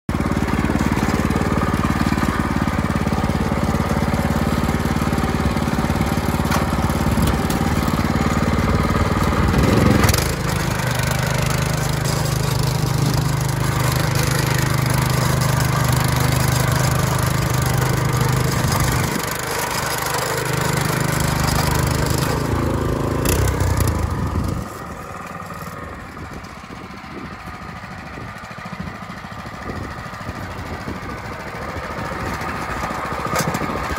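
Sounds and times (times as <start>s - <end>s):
tractor engine running under load: 0.1s - 33.9s.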